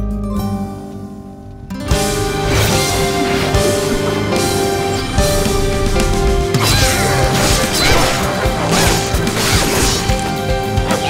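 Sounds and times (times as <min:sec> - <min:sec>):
soundtrack music with held notes: 0:00.0 - 0:11.0.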